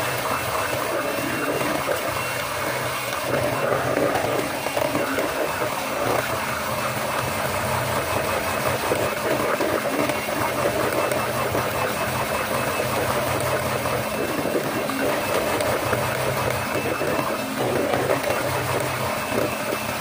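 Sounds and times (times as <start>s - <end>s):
electric hand mixer running: 0.0s - 20.0s.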